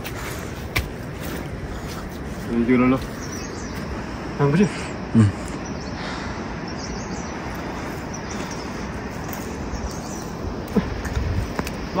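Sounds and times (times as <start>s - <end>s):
steady rushing outdoor noise: 0.0s - 12.0s.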